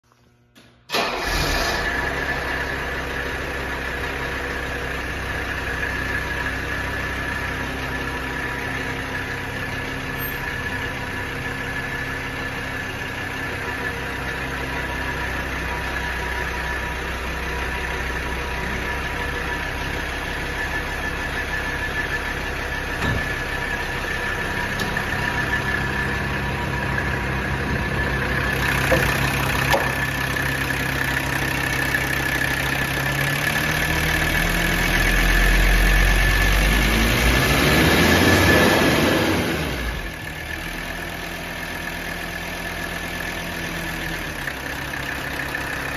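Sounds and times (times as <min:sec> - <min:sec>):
diesel engine idling: 0:00.9 - 0:45.9.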